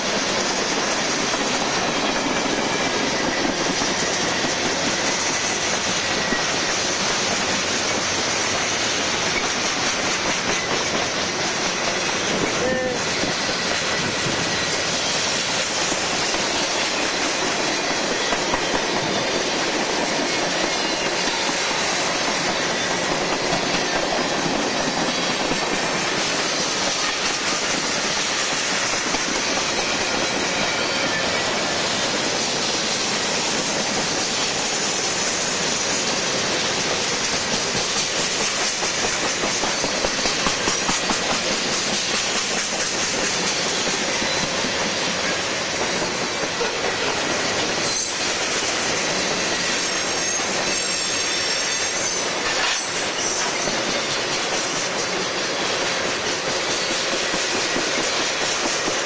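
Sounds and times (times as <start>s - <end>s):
steel wheels running on rail: 0.0s - 59.0s.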